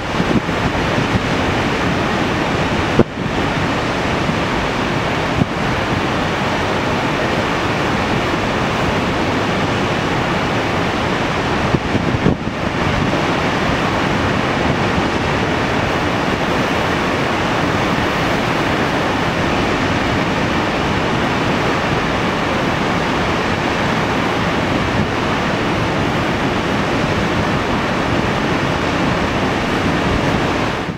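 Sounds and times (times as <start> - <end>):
water rushing over spillway: 0.0 - 30.9.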